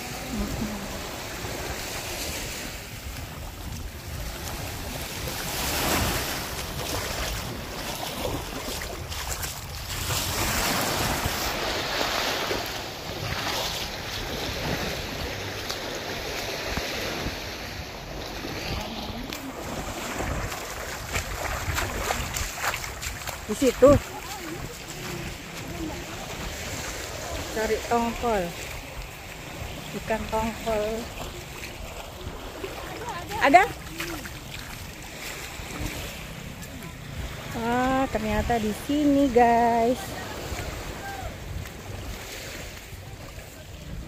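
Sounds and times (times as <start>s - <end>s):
small waves washing on beach: 0.0s - 44.0s
wind buffeting microphone: 0.0s - 44.0s.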